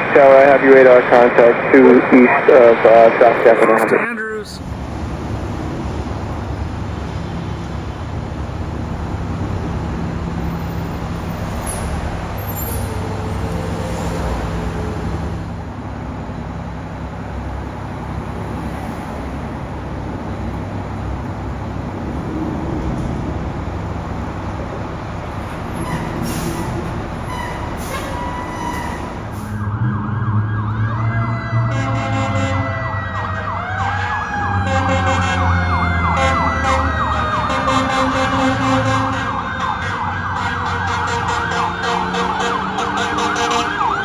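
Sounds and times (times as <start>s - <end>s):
vehicle engine rumble: 3.9s - 40.4s.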